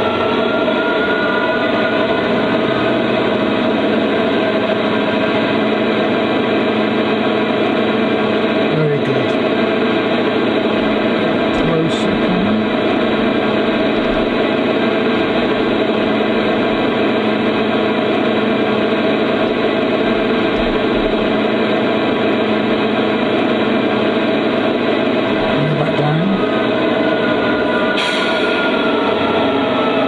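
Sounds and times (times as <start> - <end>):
model locomotive diesel engine drone: 0.0 - 30.0.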